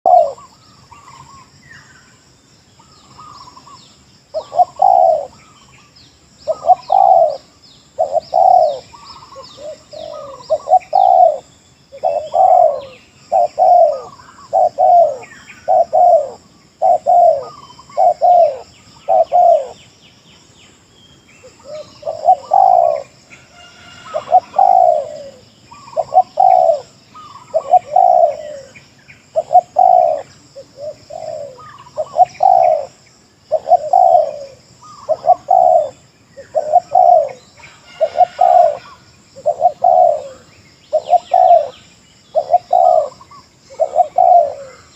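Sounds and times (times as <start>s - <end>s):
doves cooing: 0.0s - 1.4s, 3.1s - 5.6s, 6.4s - 19.8s, 21.5s - 44.9s
small birds chirping: 0.0s - 44.9s.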